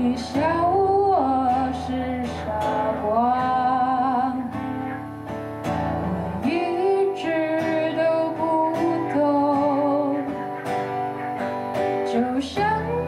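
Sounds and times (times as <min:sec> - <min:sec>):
woman singing: 0:00.0 - 0:05.0, 0:05.7 - 0:10.7, 0:11.9 - 0:13.0
strummed acoustic guitar: 0:00.0 - 0:13.0.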